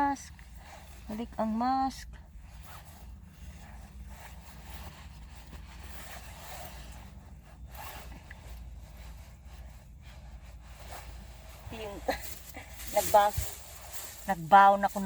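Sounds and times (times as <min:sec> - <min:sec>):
clothing rustling: 0:00.0 - 0:15.0
steady low rumble: 0:00.0 - 0:15.0.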